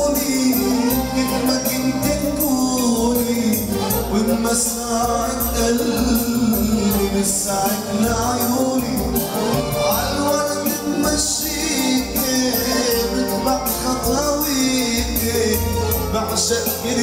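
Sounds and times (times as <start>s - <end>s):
electronic keyboard: 0.0s - 17.0s
man singing into microphone: 0.0s - 17.0s
steady drum beat: 0.0s - 17.0s.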